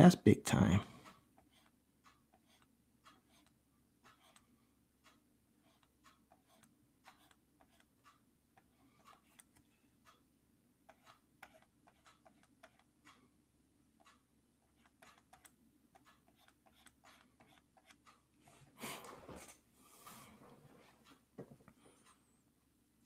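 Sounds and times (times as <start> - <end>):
faint clicks and taps: 1.0 - 13.3, 14.0 - 22.4.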